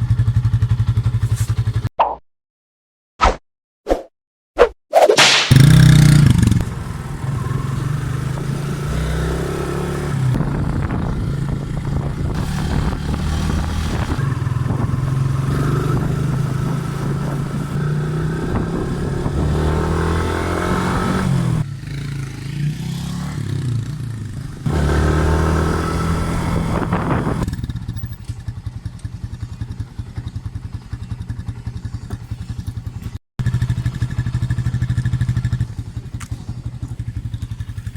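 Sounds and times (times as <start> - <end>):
motorcycle engine revving and idling: 0.0 - 1.9, 5.5 - 37.9.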